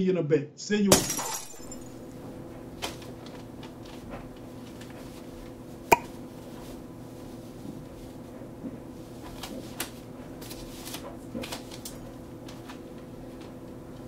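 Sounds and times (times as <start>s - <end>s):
electrical hum: 0.6s - 14.0s.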